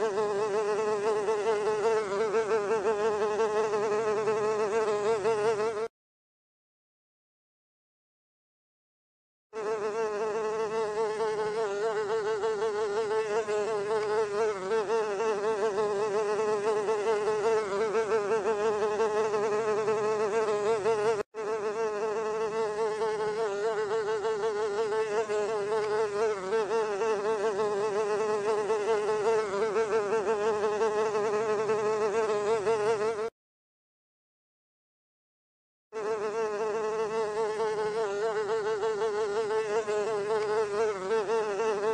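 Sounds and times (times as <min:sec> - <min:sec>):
housefly wings buzzing: 0:00.0 - 0:05.9, 0:09.6 - 0:33.4, 0:36.0 - 0:41.9.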